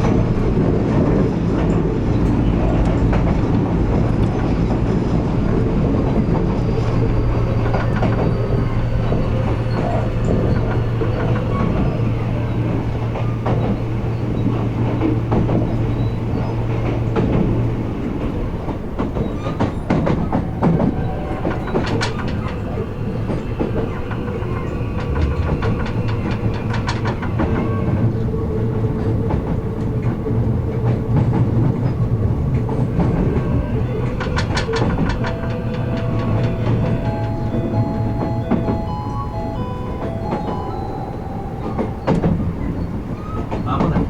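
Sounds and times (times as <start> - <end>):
train rolling rumble: 0.0 - 44.0
wheels clacking over rail joints: 0.0 - 44.0.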